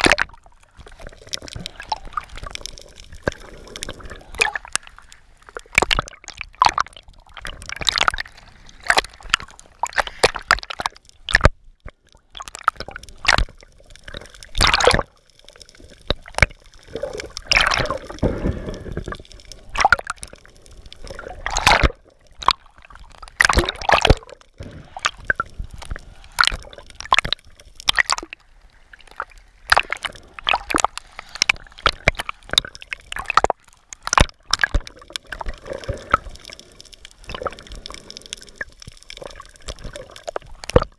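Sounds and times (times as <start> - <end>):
underwater splashes and pops: 0.0 - 40.9
water sloshing and bubbling: 0.0 - 40.9.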